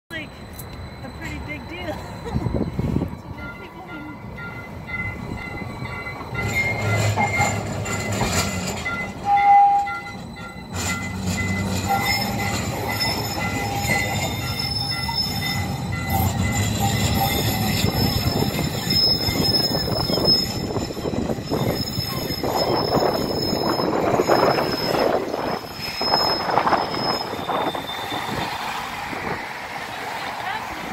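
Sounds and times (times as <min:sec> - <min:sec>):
streetcar wheels squealing: 0:00.1 - 0:30.9.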